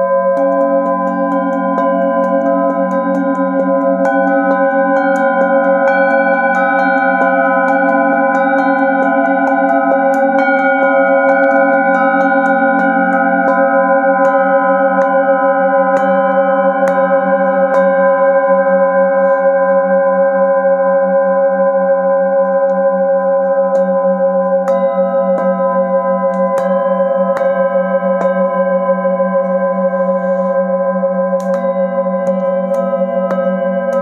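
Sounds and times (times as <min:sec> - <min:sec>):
singing bowls struck with mallet: 0:00.0 - 0:19.8, 0:22.4 - 0:34.0
singing bowl tones ringing: 0:00.0 - 0:34.0.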